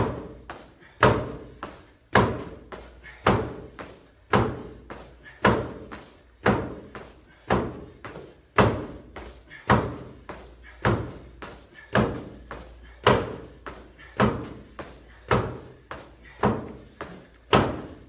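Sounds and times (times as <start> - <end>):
jump landings on rubber floor: 0.0 - 18.0.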